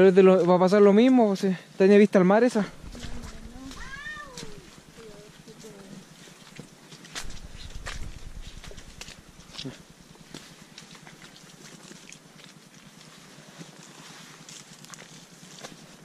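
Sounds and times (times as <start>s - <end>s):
footsteps on muddy trail: 2.6s - 16.0s.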